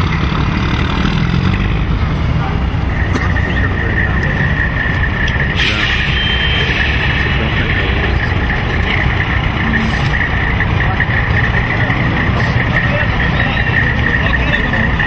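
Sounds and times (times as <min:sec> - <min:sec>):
heavy trucks rumbling on highway: 0:00.0 - 0:15.0.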